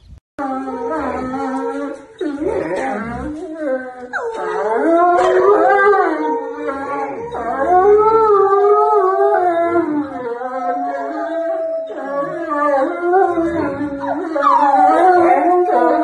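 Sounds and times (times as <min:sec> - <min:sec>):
dog howling: 0:00.4 - 0:16.0.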